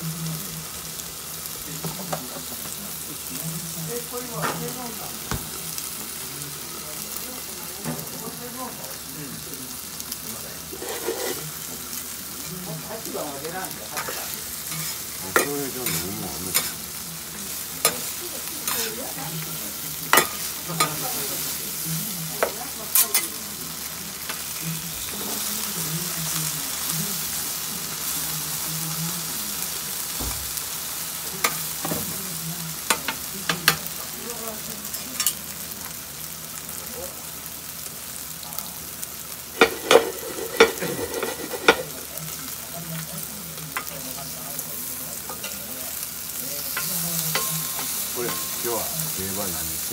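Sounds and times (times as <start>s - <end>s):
food sizzling on a griddle: 0.0s - 49.9s.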